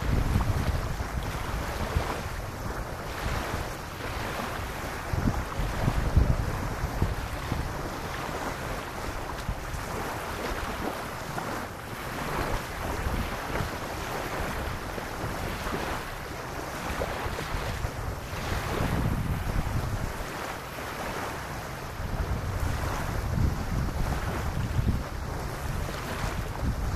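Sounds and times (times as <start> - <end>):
small waves lapping on sand: 0.0 - 26.9
wind buffeting microphone: 0.0 - 26.9.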